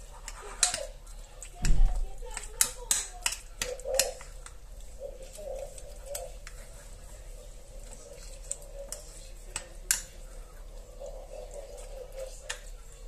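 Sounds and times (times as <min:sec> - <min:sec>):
spoon stirring thick mixture: 0:00.0 - 0:13.0.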